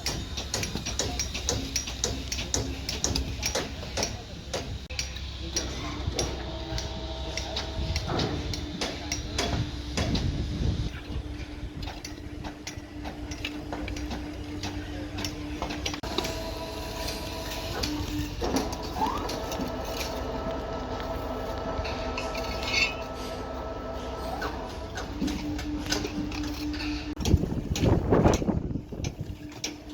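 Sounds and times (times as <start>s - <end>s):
machine running with a whine: 5.1s - 29.9s.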